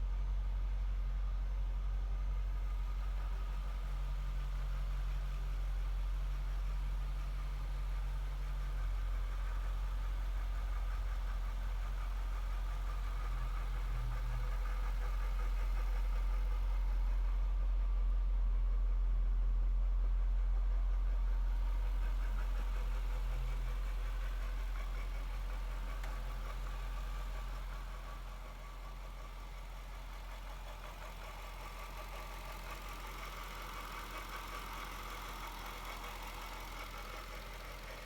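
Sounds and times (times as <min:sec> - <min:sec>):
car engine idling: 0:00.1 - 0:38.0.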